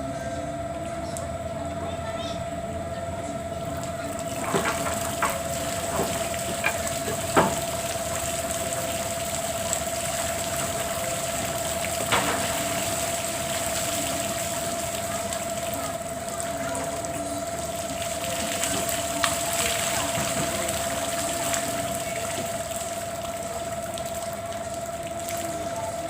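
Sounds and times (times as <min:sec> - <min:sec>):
faint constant hum: 0:00.0 - 0:26.0.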